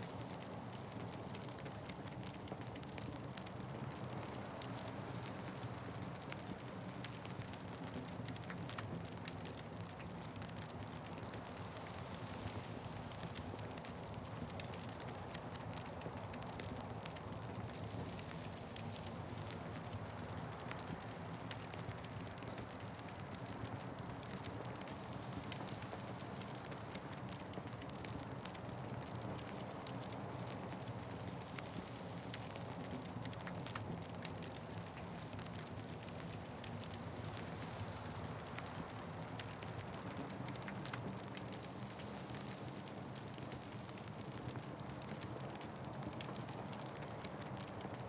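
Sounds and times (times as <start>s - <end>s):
fire crackling and popping: 0.1s - 48.0s.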